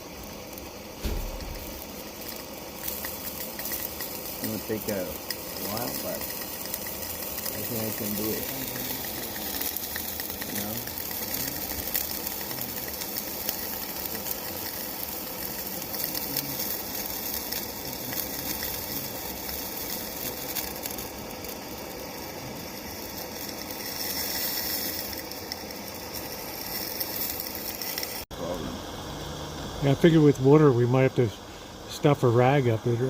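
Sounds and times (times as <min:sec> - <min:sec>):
faint crackles: 0:00.0 - 0:28.3
torch flame hissing: 0:00.0 - 0:33.0.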